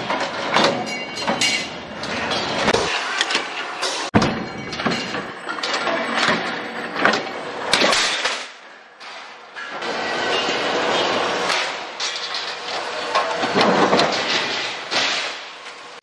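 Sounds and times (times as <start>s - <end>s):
steady workshop machine noise: 0.0s - 16.0s.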